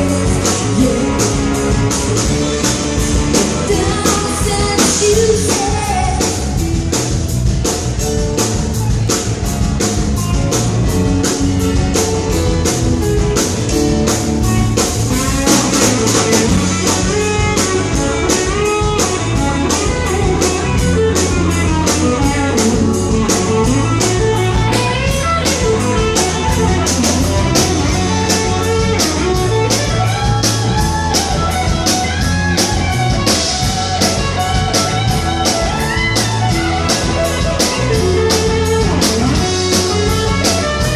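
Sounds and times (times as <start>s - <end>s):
blues-rock lead guitar: 0.0s - 40.9s
drum kit beat: 0.0s - 40.9s.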